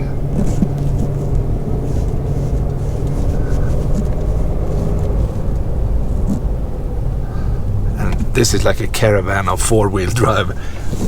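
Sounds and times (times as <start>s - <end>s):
car engine hum: 0.0s - 11.0s
road rumble: 0.0s - 11.0s.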